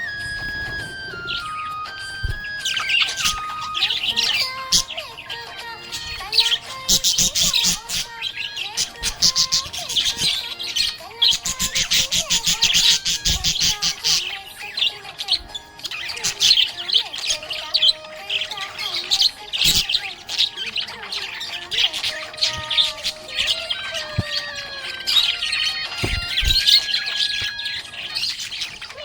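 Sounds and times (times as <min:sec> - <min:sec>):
budgerigar chirping and squawking: 0:00.0 - 0:29.0.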